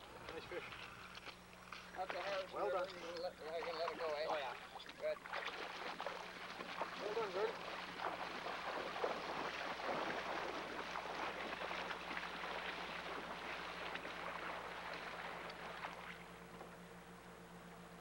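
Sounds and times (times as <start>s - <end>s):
waders splashing through shallow water: 0.2s - 16.8s.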